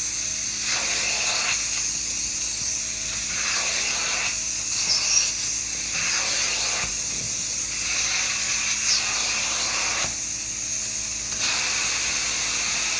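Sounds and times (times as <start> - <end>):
vacuum hissing through upholstery tool: 0.0 - 12.9.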